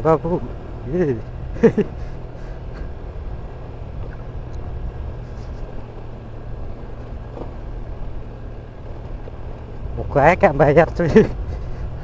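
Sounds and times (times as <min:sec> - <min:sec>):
scooter engine rumble: 0:00.0 - 0:12.0.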